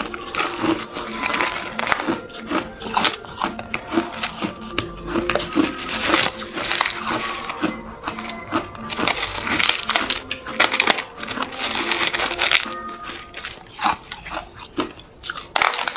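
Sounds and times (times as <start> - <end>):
chewing ice cubes: 0.0 - 15.9.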